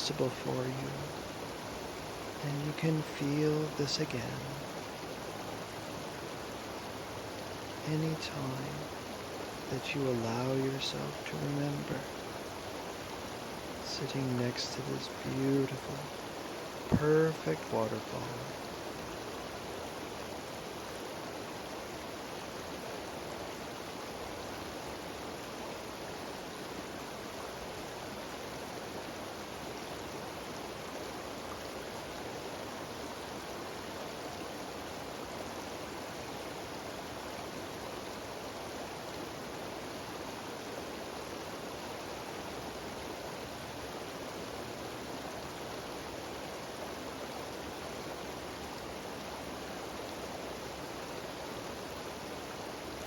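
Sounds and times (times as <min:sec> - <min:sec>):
waterfall rushing over rocks: 0:00.0 - 0:53.0.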